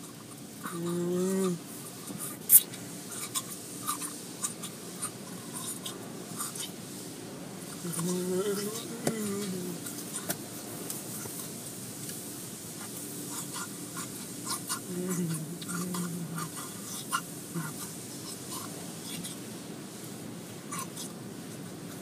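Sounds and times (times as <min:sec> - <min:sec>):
car wash spray hissing: 0:00.0 - 0:22.0.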